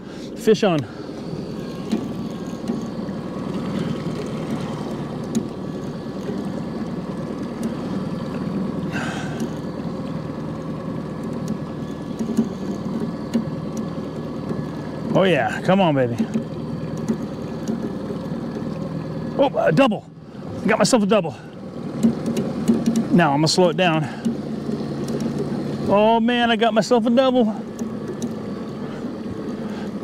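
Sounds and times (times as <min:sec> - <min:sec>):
boat motor humming: 0:00.0 - 0:30.0.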